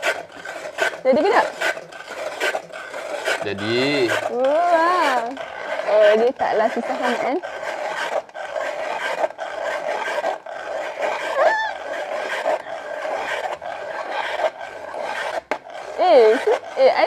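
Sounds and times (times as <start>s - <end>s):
ice shaver grinding ice: 0.0s - 17.0s.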